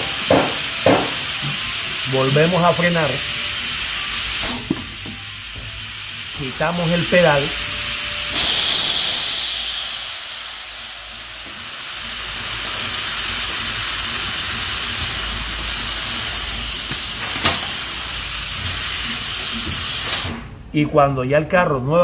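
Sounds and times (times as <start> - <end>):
compressed air hissing: 0.0 - 20.6.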